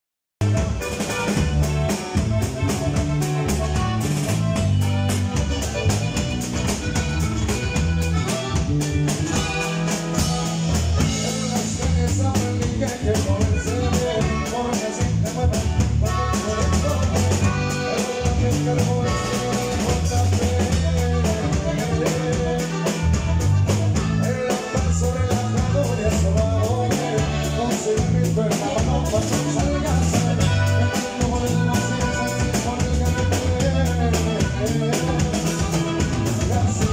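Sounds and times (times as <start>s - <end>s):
drum kit beat: 0.4s - 36.9s
electric bass: 0.4s - 36.9s
guitar: 0.4s - 36.9s.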